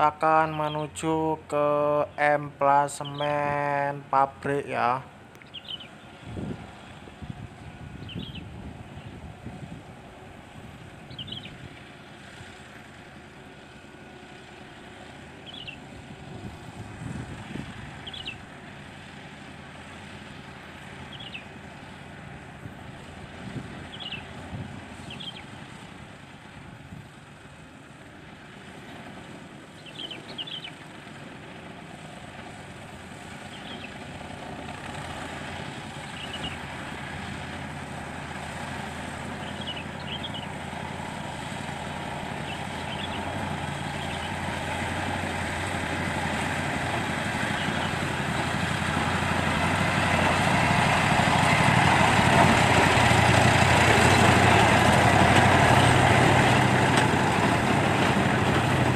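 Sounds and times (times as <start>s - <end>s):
diesel locomotive engine: 0.0s - 58.9s.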